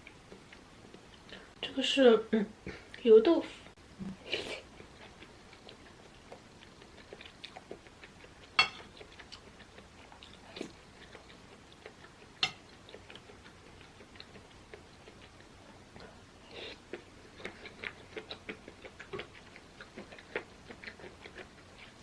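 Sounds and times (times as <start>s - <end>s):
close chewing: 0.0s - 1.6s, 4.1s - 22.0s.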